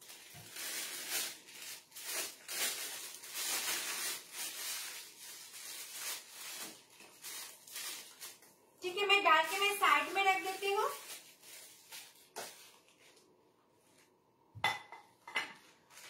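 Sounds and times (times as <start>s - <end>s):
plastic bag crinkling: 0.0s - 13.3s.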